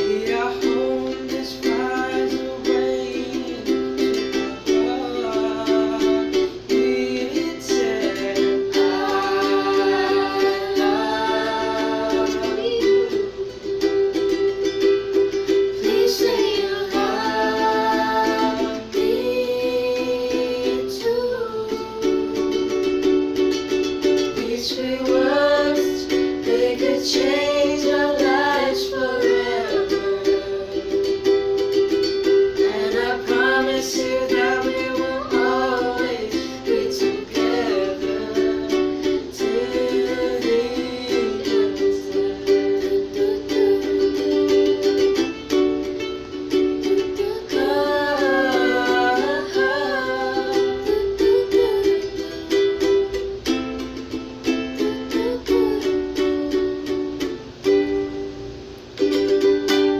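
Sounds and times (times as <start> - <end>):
voices singing: 0.0 - 58.0
ukulele strumming chords: 0.0 - 59.9.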